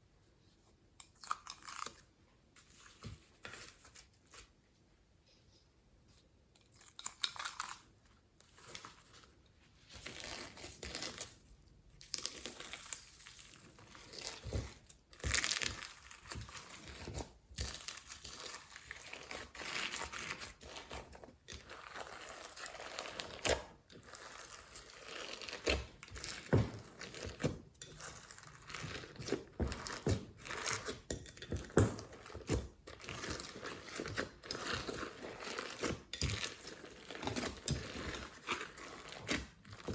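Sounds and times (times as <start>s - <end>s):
slime squelching and crackling: 6.7s - 39.9s.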